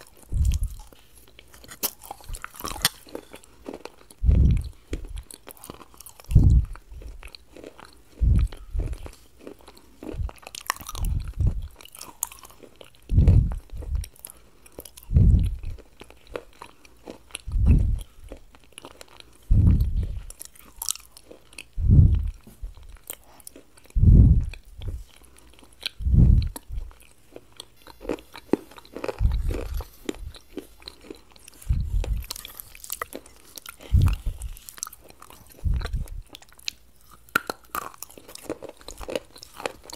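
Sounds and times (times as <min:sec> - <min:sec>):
close chewing: 0:00.0 - 0:39.9.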